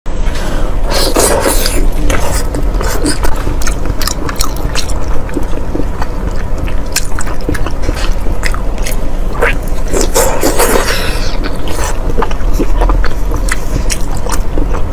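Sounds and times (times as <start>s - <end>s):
steady low hum: 0.1s - 14.9s
wet chewing and squishing: 0.9s - 14.9s.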